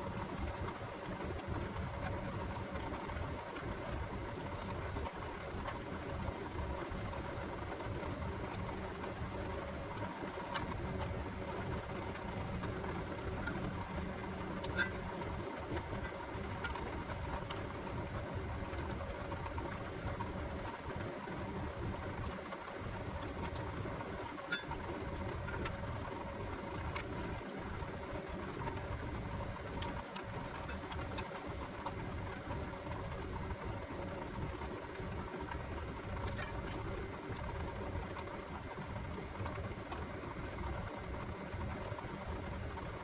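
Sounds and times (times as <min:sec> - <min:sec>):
faint steady tones: 0:00.0 - 0:43.0
steady mechanical hum: 0:00.0 - 0:43.0.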